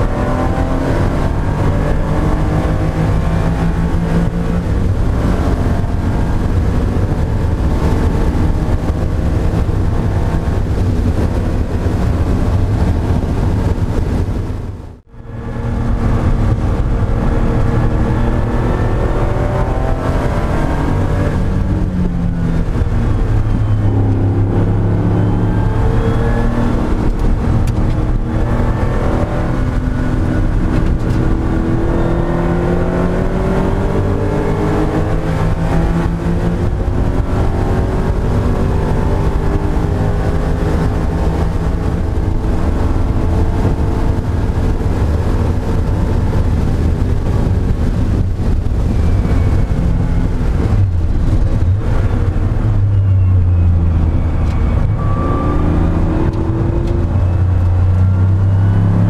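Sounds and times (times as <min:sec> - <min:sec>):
race car engine accelerating: 0:00.0 - 0:14.2, 0:14.8 - 0:59.0.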